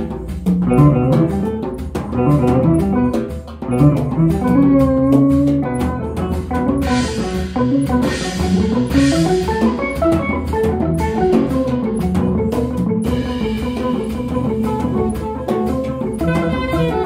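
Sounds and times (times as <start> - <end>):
drums and cymbals: 0.0 - 17.0
electric guitar solo: 0.0 - 17.0.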